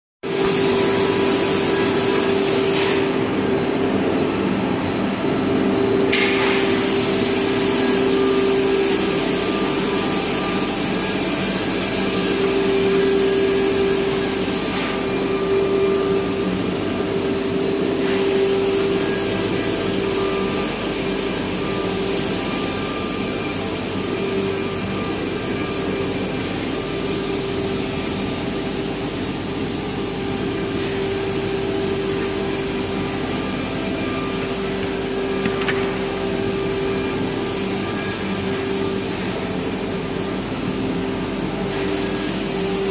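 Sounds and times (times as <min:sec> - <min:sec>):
machine high hiss: 0:00.2 - 0:42.9.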